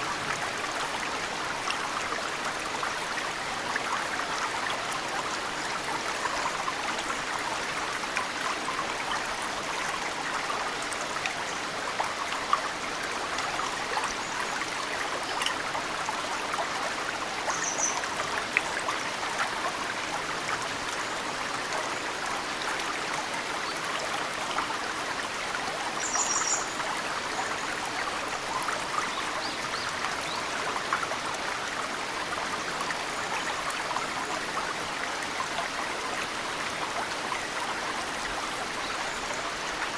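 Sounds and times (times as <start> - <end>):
mountain stream running: 0.0 - 39.9.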